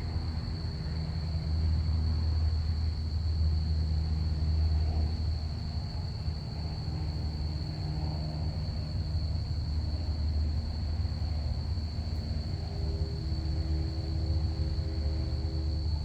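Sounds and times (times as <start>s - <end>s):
crickets chirping: 0.0s - 16.0s
plane engines rumbling: 0.0s - 16.0s.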